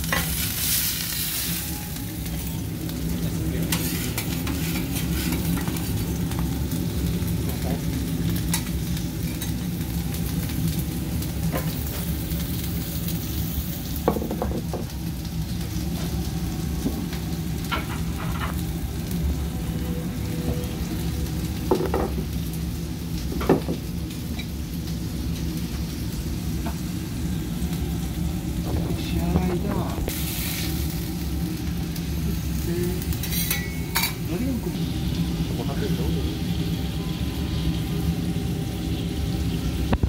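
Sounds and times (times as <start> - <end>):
beef sizzling on a griddle: 0.0 - 40.0.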